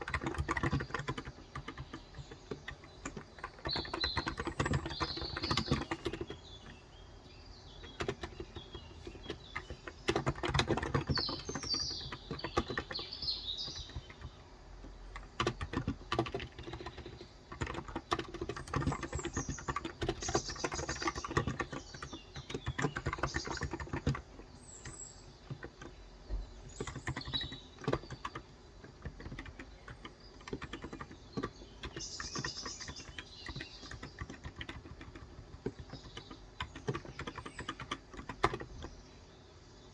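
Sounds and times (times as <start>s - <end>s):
keyboard typing: 0.0s - 7.0s, 7.7s - 39.0s
birds chirping: 0.0s - 39.9s.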